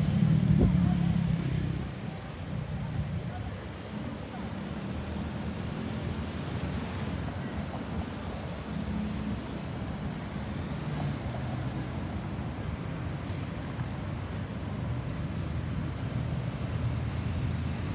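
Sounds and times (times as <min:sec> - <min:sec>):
road traffic rumble: 0:00.0 - 0:17.9.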